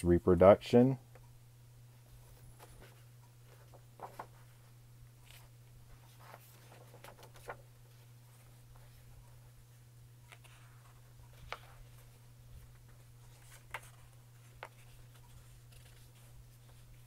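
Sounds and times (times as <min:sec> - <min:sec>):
low steady hum: 0:00.0 - 0:17.0
magazine pages rustling: 0:02.2 - 0:09.6, 0:10.2 - 0:17.0.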